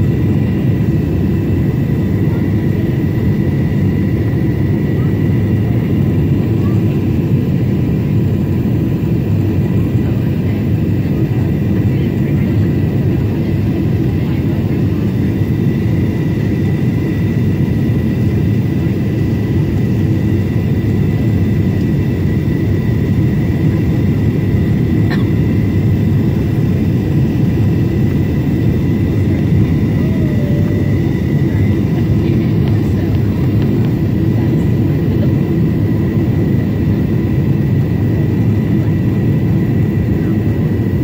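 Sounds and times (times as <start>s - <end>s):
airplane engine and air roar: 0.0s - 41.0s.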